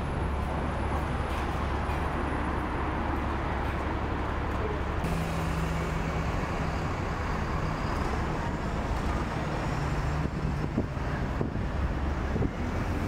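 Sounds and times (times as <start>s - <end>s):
buses and cars driving by: 0.0s - 13.0s
low engine hum: 0.0s - 13.0s.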